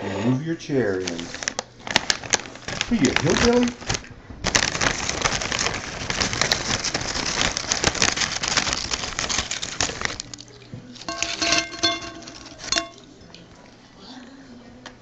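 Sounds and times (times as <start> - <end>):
dense crackling and rustling: 0.8 - 13.0.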